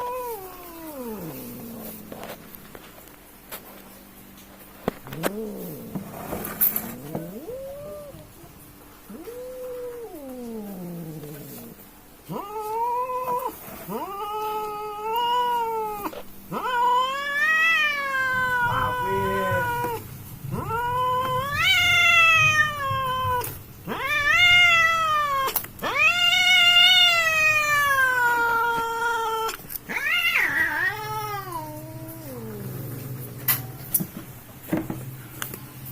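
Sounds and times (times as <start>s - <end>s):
cats yowling in a fight: 0.0s - 2.4s, 4.9s - 33.9s.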